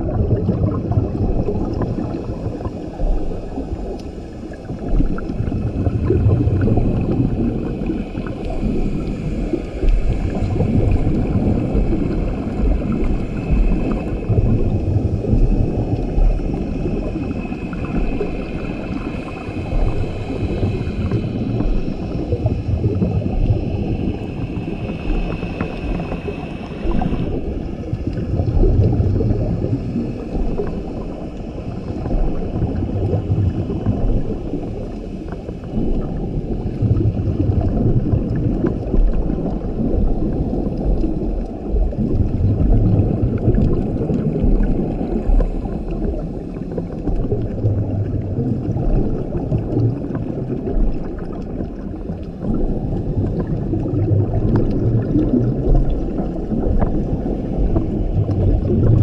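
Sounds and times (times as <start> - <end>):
diver exhaling bubbles underwater: 0.0 - 59.0.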